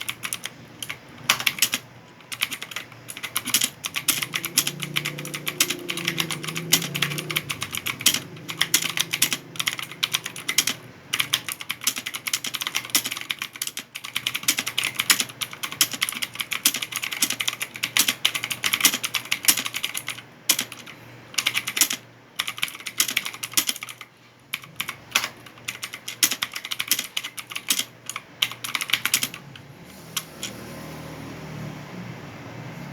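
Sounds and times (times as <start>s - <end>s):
fast typing on keyboard: 0.0s - 29.7s.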